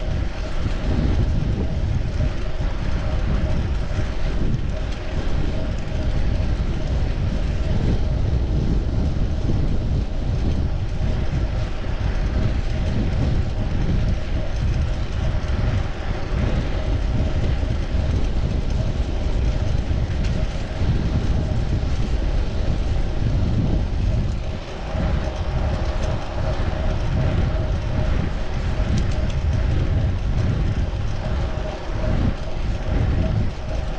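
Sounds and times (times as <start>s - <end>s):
road noise: 0.0s - 33.9s
wind rumbling on microphone: 0.0s - 33.9s.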